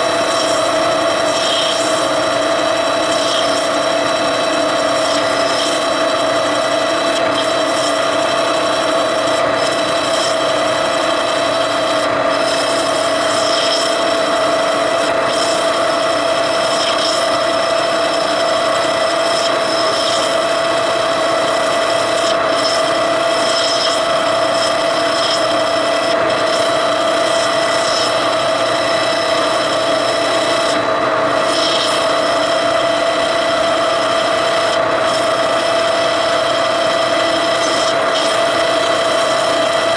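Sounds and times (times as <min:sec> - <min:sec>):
machine tool cutting metal: 0:00.0 - 0:39.9.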